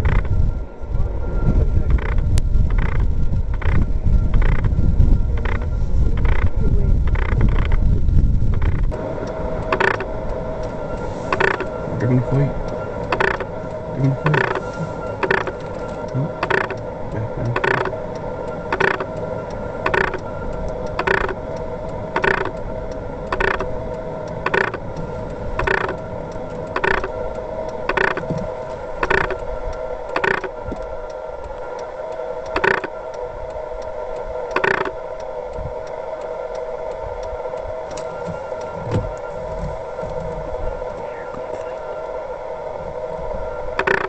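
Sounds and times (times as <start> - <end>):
sharp ticks: 0.0 - 0.4, 1.9 - 33.2, 33.8 - 39.3, 43.8 - 44.0
mechanical hum: 0.0 - 44.0.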